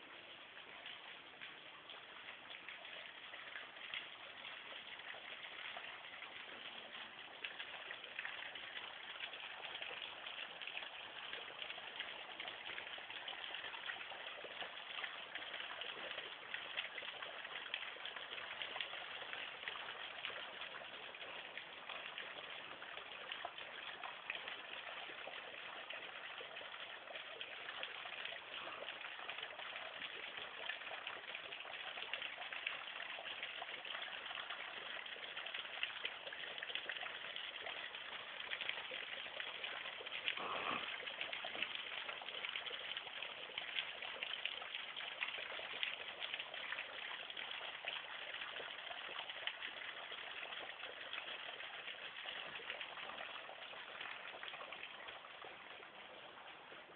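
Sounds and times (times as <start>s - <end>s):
waterfall splashing into pool: 2.2s - 55.9s.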